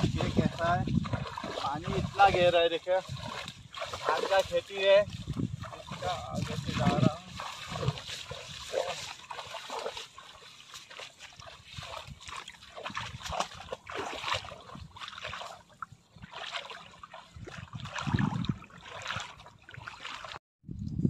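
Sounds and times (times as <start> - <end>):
footsteps sloshing through water: 0.0 - 20.4.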